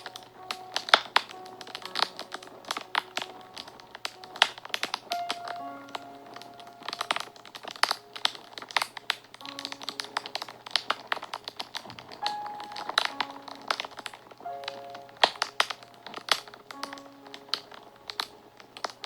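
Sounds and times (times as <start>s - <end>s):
fire crackling and popping: 0.0s - 19.0s
soft music with held notes: 0.0s - 19.0s.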